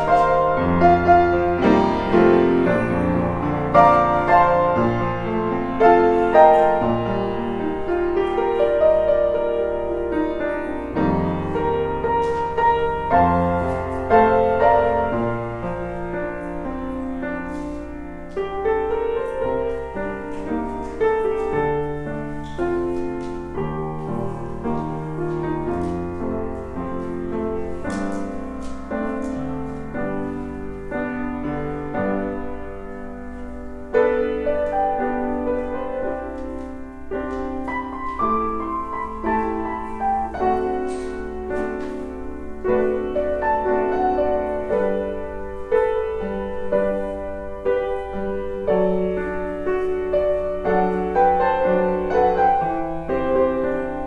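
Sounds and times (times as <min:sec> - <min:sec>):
slow keyboard music: 0:00.0 - 0:54.0.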